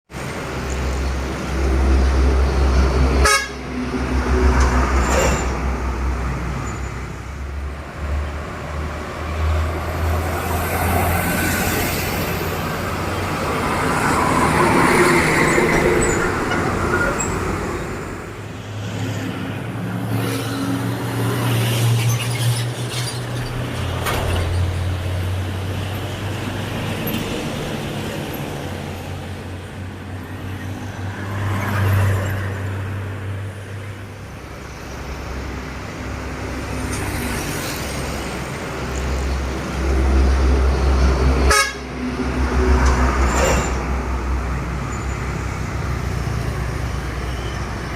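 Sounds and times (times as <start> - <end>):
heavy diesel vehicles passing: 0.1 - 47.9
tyre and road noise: 0.1 - 47.9.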